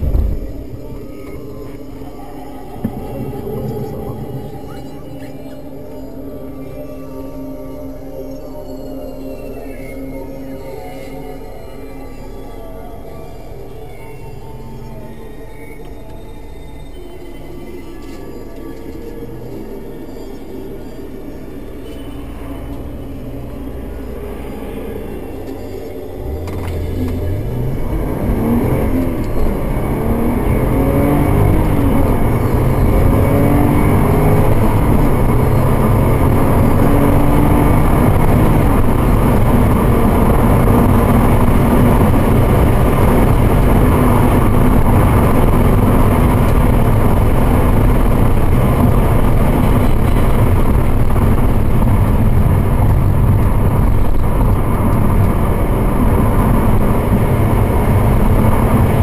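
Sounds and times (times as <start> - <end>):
car engine accelerating: 0.0 - 59.0
road and tyre noise: 0.0 - 59.0.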